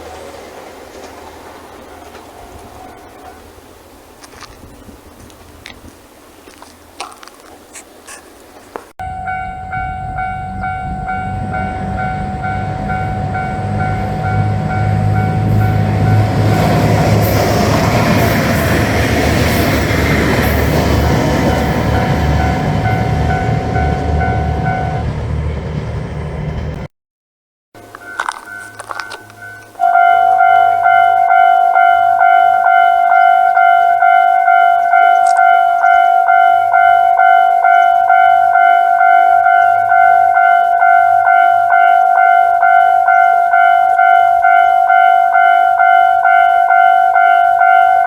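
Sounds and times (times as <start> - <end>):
level crossing warning bell: 0.0 - 4.5, 9.0 - 25.3, 27.8 - 48.0
diesel train engine rumble: 0.0 - 26.9, 27.8 - 48.0
train wheel noise: 0.0 - 26.9, 27.8 - 48.0.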